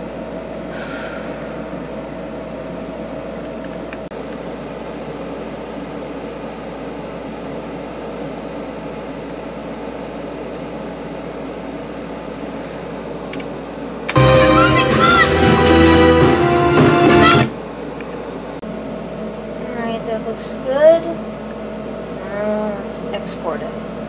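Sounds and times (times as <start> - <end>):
fan whirring: 0.0 - 24.0.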